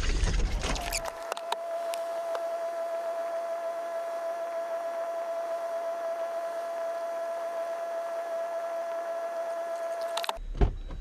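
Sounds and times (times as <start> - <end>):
high-pitched hum: 0.0 - 11.0.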